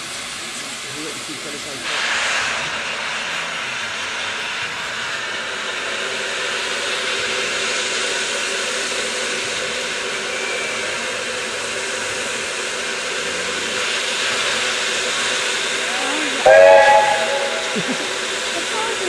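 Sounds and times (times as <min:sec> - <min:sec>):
steam locomotive blowing off steam: 0:00.0 - 0:19.0.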